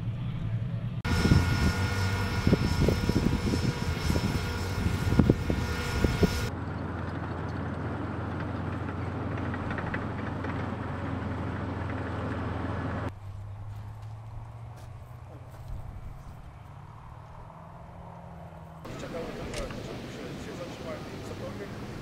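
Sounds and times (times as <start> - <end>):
heavy engine rumble: 0.0 - 16.6, 18.8 - 22.0
high engine whine: 0.0 - 22.0
tracked vehicle drone: 0.0 - 22.0.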